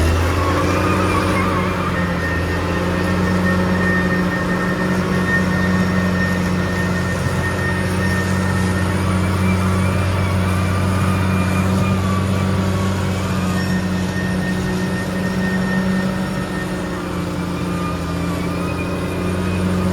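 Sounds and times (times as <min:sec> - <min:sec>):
bulldozer diesel engine running: 0:00.0 - 0:19.9
faint wavering whines: 0:00.0 - 0:19.9.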